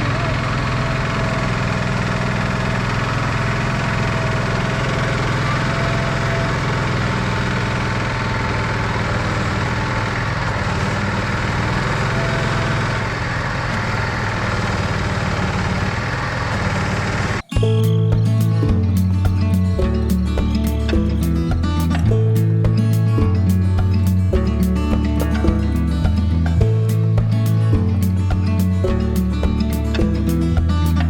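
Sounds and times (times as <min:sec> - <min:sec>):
heavy machine engine idling: 0:00.0 - 0:31.0.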